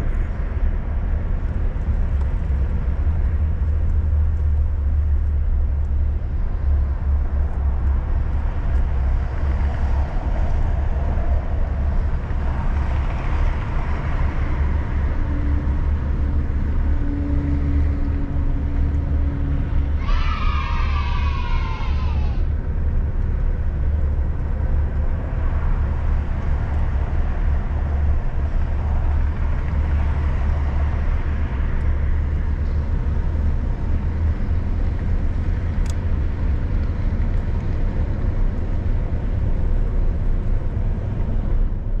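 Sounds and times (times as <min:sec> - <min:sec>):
car driving: 0:00.0 - 0:41.8
low rumble of road noise: 0:00.0 - 0:42.0.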